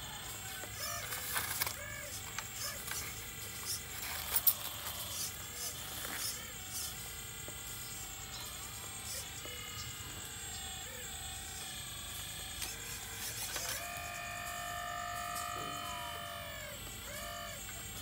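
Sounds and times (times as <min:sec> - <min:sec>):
hydraulic pump motor whining: 0:00.0 - 0:18.0.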